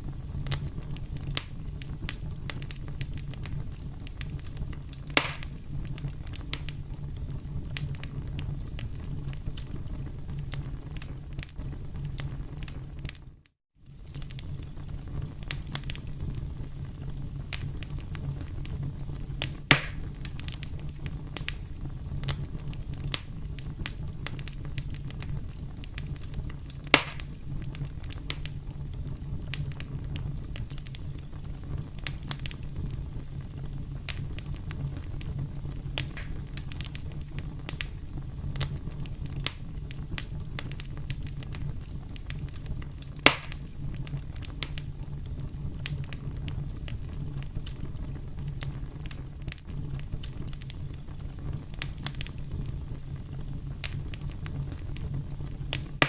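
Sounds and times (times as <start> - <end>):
campfire crackling: 0.0 - 56.0
loud fire pops: 0.0 - 56.0.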